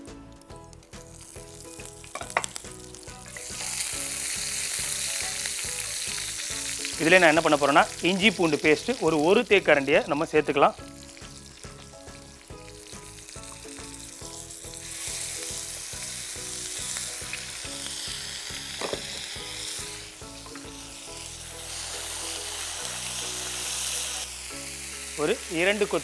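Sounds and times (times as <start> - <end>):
paste sizzling in hot oil: 0.0 - 26.0
soft background music: 0.0 - 26.0.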